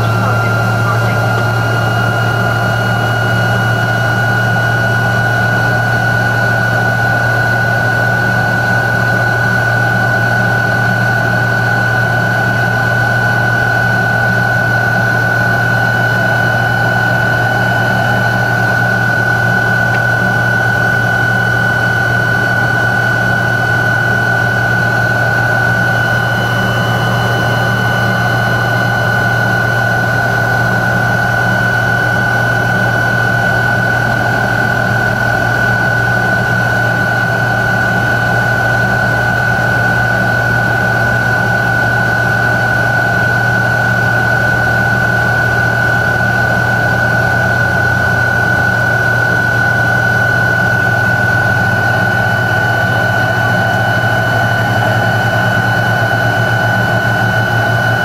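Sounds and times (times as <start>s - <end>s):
jet engines whining in cabin: 0.0s - 58.0s.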